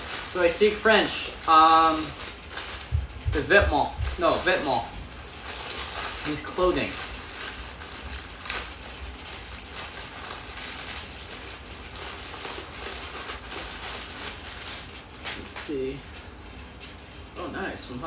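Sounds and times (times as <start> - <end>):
plastic bag tearing: 0.0 - 15.5
plastic bag crinkling and rustling: 0.0 - 17.6.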